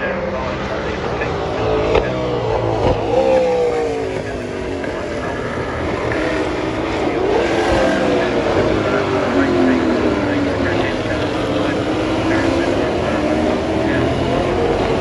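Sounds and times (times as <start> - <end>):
race cars driving past: 0.0 - 15.0.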